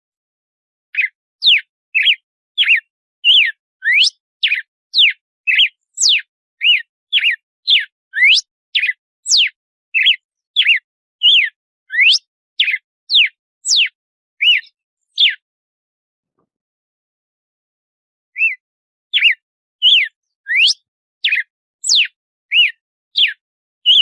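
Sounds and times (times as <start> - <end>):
bird whistling song: 0.9 - 15.4, 18.3 - 24.0.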